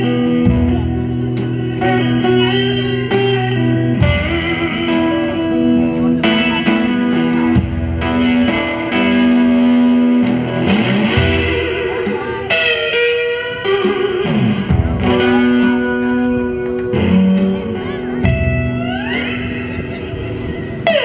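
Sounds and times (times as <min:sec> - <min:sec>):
blues on amplified resonator guitar: 0:00.0 - 0:21.0
drum kit keeping time: 0:00.0 - 0:21.0.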